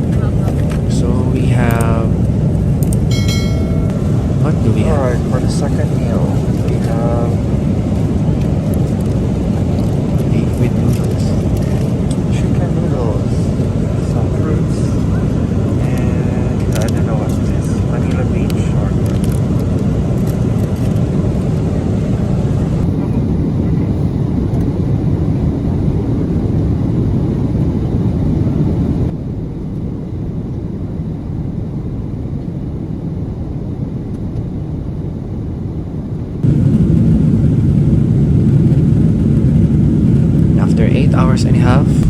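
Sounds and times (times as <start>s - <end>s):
airliner cabin engine roar: 0.0s - 42.0s.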